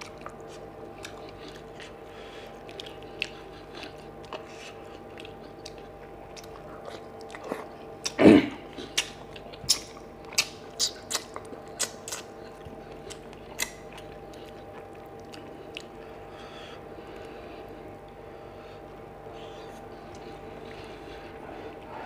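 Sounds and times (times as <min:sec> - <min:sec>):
mouth clicks and chewing: 0:00.0 - 0:18.3, 0:19.3 - 0:21.9
person eating by hand: 0:00.0 - 0:22.0.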